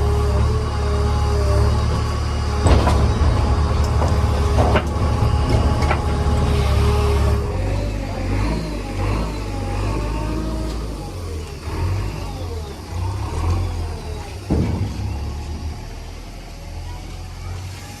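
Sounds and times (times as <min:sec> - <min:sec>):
heavy diesel engine revving: 0:00.0 - 0:18.0.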